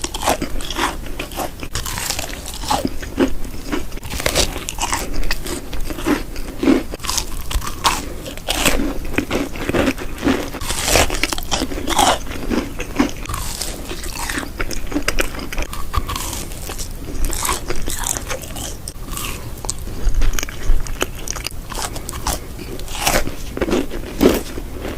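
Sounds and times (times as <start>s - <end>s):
person chewing crunchy food: 0.0s - 24.9s.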